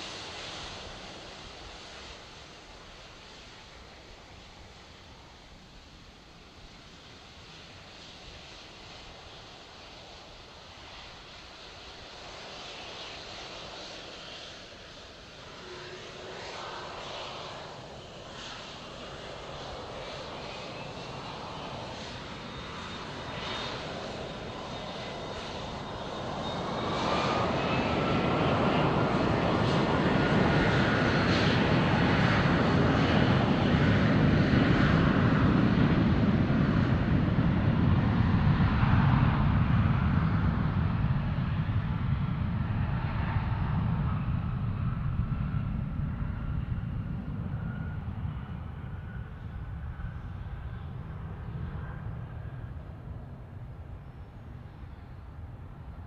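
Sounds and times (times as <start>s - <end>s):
high jet engine whine: 0.0s - 56.0s
jet engine rumble: 0.0s - 56.0s.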